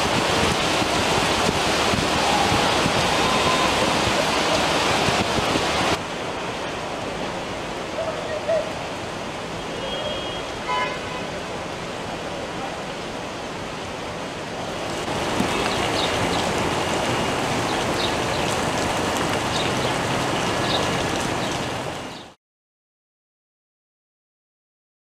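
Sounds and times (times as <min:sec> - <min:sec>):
heavy rain: 0:00.0 - 0:22.4
running floodwater: 0:00.0 - 0:22.4.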